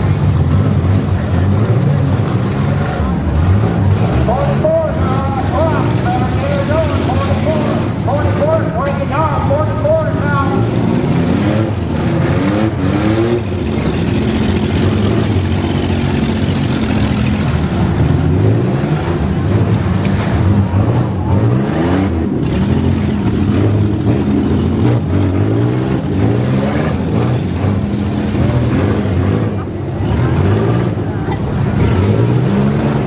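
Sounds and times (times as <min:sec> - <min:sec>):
engines revving: 0:00.0 - 0:33.0.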